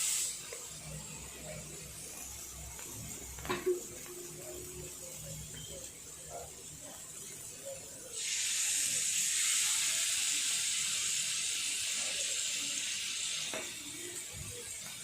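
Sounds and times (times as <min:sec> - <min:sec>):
chicken sizzling on a hot pan: 0:00.0 - 0:15.0.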